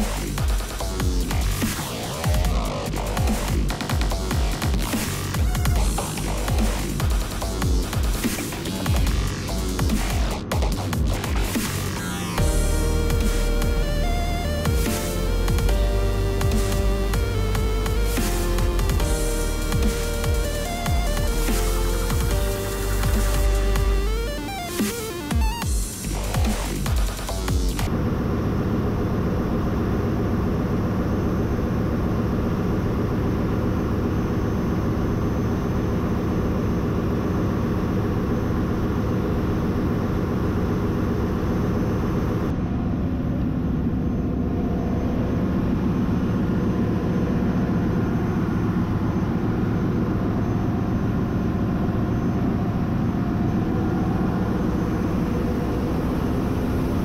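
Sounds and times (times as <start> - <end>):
ship engine room machinery drone: 0.0 - 57.0.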